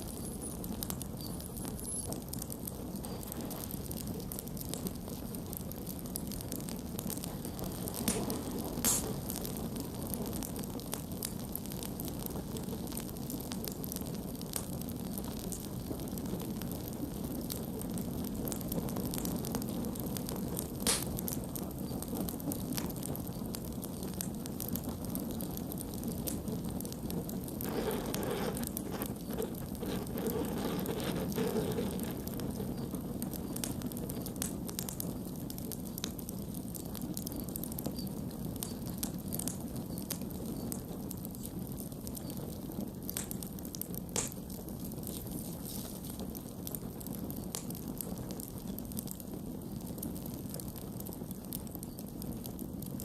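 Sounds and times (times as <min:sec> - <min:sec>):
rush of fire flames: 0:00.0 - 0:53.0
wood crackling and popping: 0:00.0 - 0:53.0.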